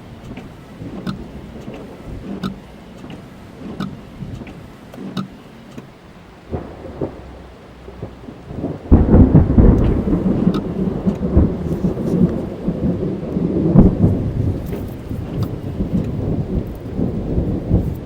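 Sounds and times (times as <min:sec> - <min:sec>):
thunder rumbling: 0:00.0 - 0:03.0, 0:06.2 - 0:18.0
rain on a car: 0:00.0 - 0:18.0.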